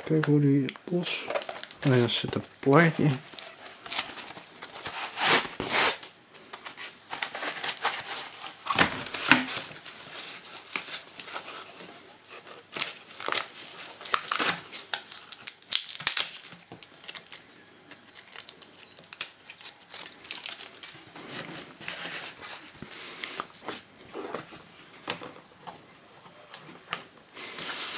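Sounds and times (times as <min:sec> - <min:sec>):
packaging crinkling: 0:00.0 - 0:24.6.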